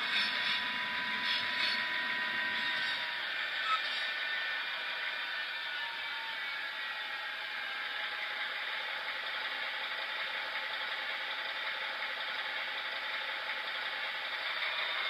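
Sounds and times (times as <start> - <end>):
diesel engine sound from tiny speaker: 0.0 - 5.7, 7.4 - 15.0
model train motor whirring: 0.0 - 10.4, 11.6 - 15.0.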